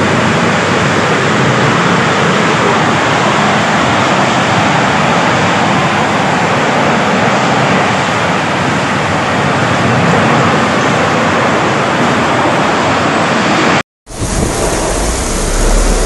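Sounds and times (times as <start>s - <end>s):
tornado wind rushing: 0.0s - 16.0s.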